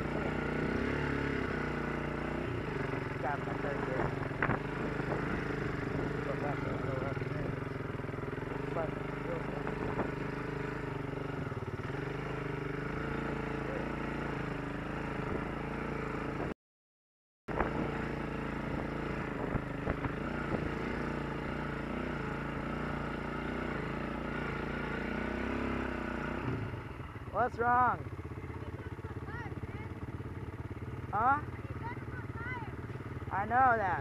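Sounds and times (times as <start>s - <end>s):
quad bike engine running: 0.0s - 16.6s, 17.5s - 34.0s.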